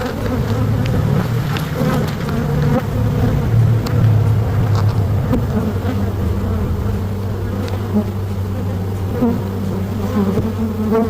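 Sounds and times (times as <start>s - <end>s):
faint ticks: 0.0s - 6.0s, 7.1s - 10.6s
bees buzzing: 0.0s - 11.0s.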